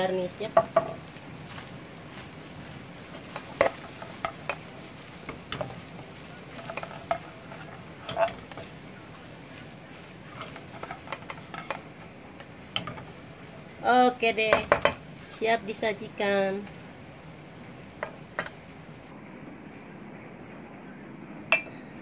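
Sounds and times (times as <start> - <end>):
utensil scraping frying pan: 0.0 - 17.1, 17.7 - 19.0
light sizzle: 0.0 - 19.1.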